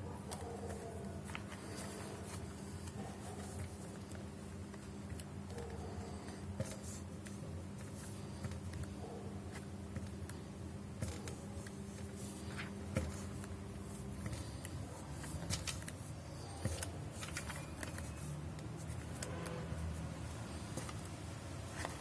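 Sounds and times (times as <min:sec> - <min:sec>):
paper rustling: 0:00.1 - 0:22.0.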